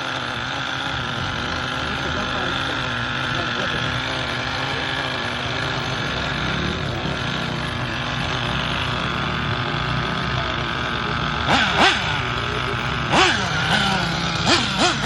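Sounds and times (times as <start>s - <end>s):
small engine running and revving: 0.0s - 15.0s.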